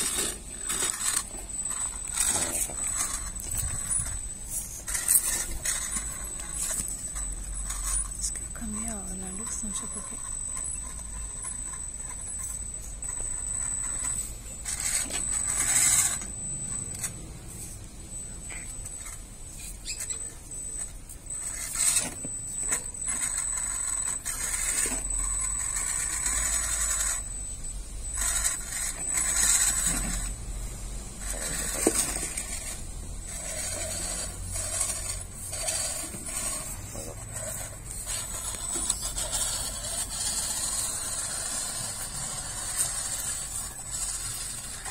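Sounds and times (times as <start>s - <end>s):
high motor whine: 0.0s - 44.9s.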